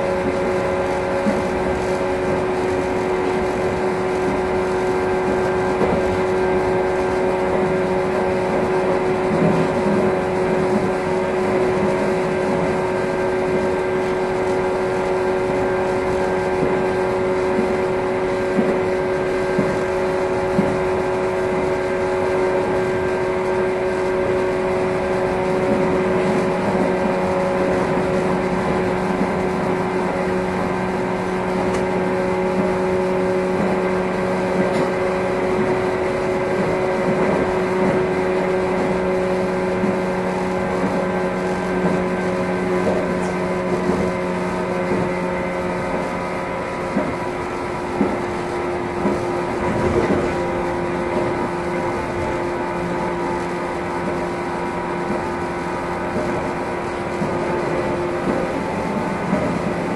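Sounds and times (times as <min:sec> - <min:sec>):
train motor and gear whine: 0:00.0 - 0:59.9
wheels on rails: 0:00.0 - 0:59.9.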